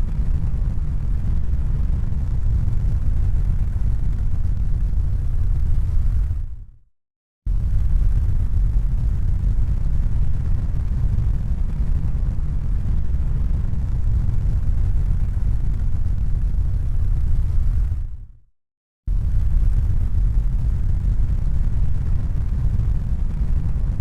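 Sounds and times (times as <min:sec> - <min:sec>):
low rumbling noise: 0:00.0 - 0:06.6, 0:07.5 - 0:18.3, 0:19.1 - 0:24.0.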